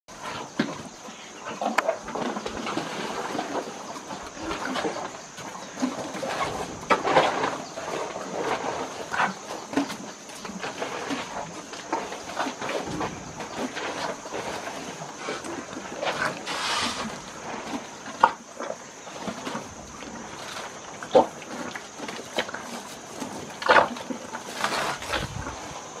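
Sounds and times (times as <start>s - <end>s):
elephants rummaging in plastic baskets: 0.1s - 26.0s.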